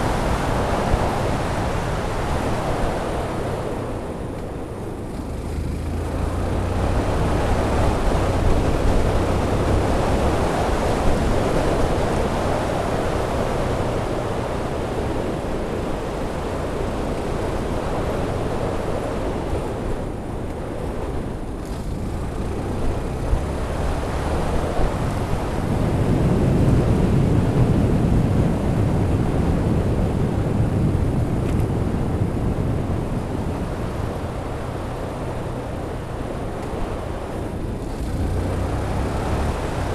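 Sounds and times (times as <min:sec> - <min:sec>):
motorcycle engine running: 0:00.0 - 0:15.1, 0:16.2 - 0:39.9
wind rushing over microphone: 0:00.0 - 0:39.9.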